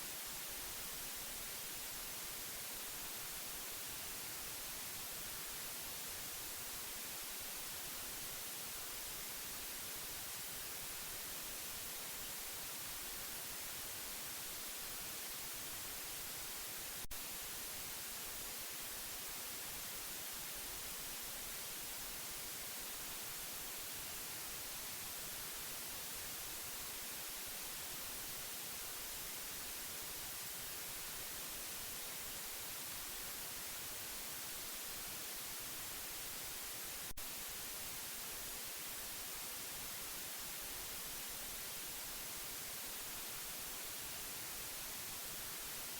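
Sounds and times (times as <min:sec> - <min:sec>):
steady white noise hiss: 0:00.0 - 0:45.9.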